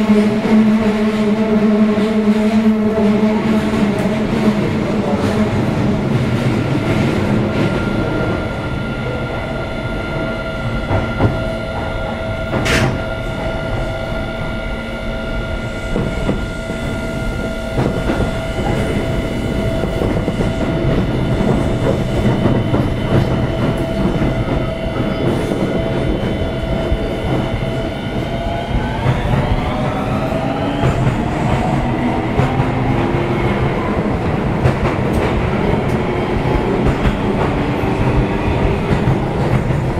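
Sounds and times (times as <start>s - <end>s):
train wheel and track rumble: 0.0s - 39.9s.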